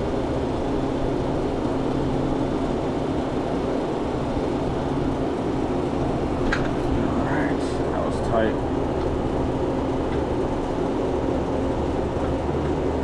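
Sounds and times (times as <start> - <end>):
machinery drone: 0.0 - 13.0.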